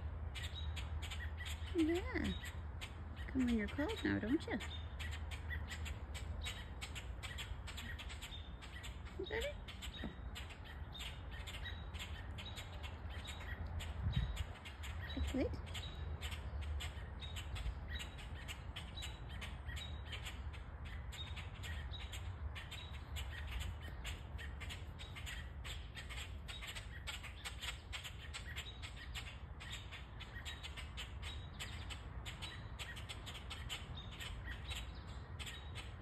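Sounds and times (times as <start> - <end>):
birds squawking and chirping: 0.0 - 36.0.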